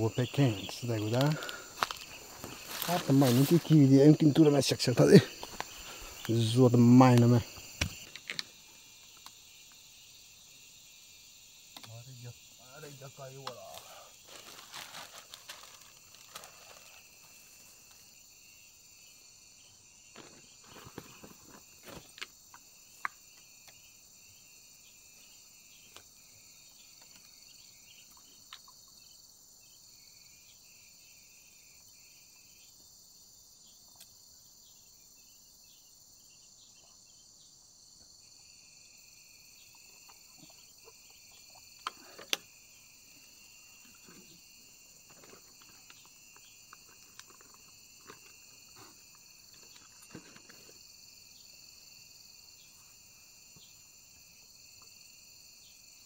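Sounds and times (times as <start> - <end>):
insect chorus chirring: 0.0 - 56.0.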